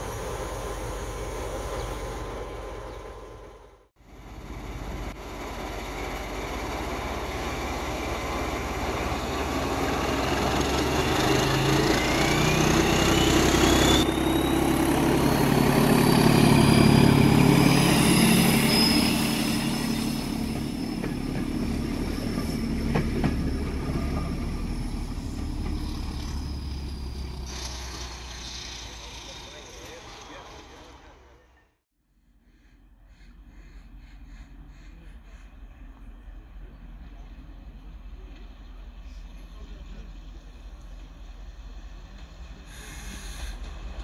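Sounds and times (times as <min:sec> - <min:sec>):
train coaches passing: 0:00.0 - 0:31.7, 0:32.7 - 0:44.0
diesel locomotive engine passing: 0:00.0 - 0:31.8, 0:32.5 - 0:44.0.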